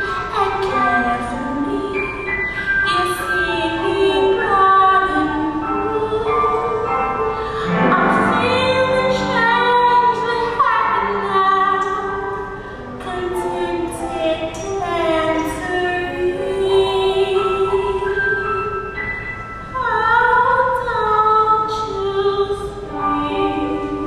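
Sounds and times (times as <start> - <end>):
women singing with accompaniment: 2.8 - 18.9, 19.8 - 24.0.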